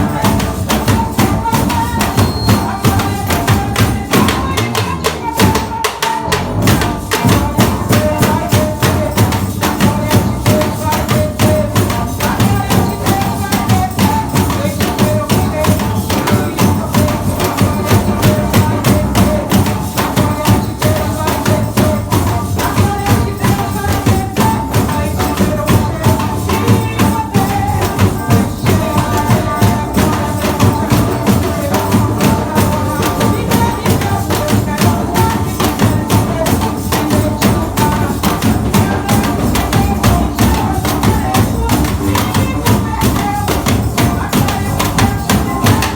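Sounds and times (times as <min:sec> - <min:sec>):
percussion band playing: 0:00.0 - 0:45.9.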